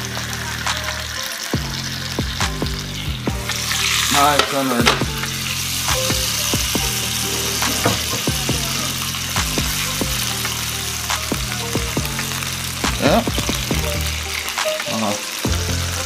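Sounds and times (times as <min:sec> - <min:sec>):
fat sizzling and popping: 0:00.0 - 0:16.0.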